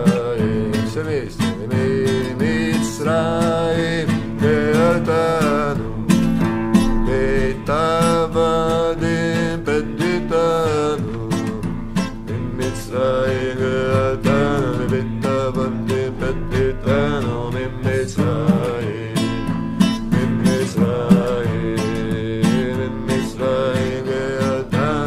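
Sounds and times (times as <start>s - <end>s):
man singing: 0.0s - 25.0s
strummed acoustic guitar: 0.0s - 25.0s.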